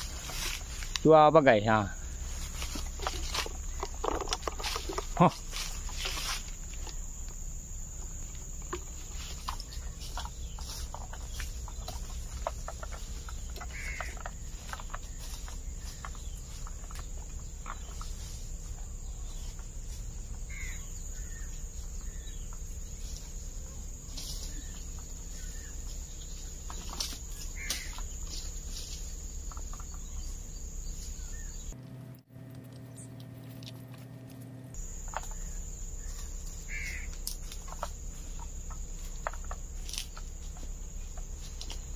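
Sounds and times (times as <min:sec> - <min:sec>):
birds calling: 0:00.0 - 0:41.9
high insect drone: 0:00.0 - 0:41.9
low steady hum: 0:00.0 - 0:41.9.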